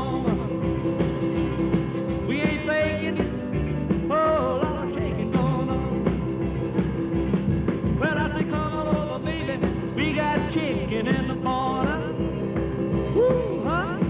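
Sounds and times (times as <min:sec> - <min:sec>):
rock and roll music: 0:00.0 - 0:14.0.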